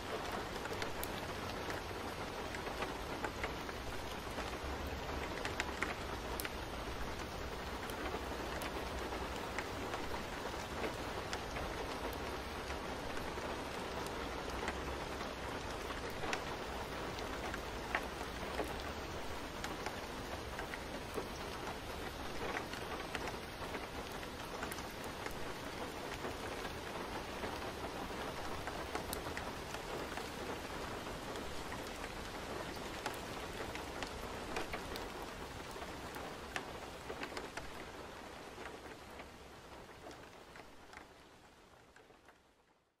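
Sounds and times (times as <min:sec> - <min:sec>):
raindrop ticks: 0:00.0 - 0:42.5
steady rain falling: 0:00.0 - 0:43.0.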